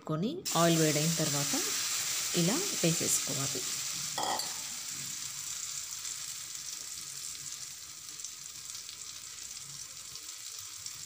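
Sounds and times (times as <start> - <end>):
egg batter sizzling in oil: 0.5 - 11.0.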